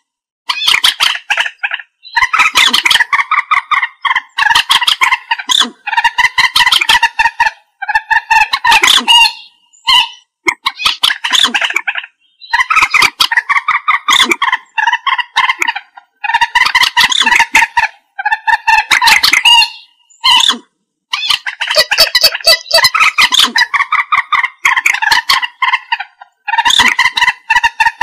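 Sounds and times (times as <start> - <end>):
moorhen harsh stuttering calls: 0.5 - 28.0.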